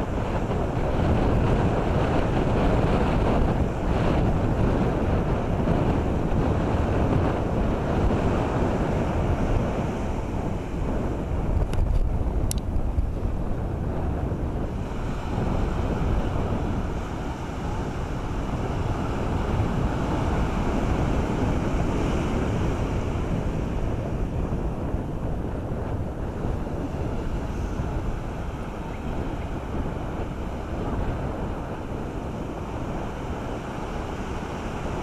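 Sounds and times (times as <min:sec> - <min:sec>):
surf breaking on beach: 0:00.0 - 0:35.0
wind buffeting microphone: 0:00.0 - 0:35.0.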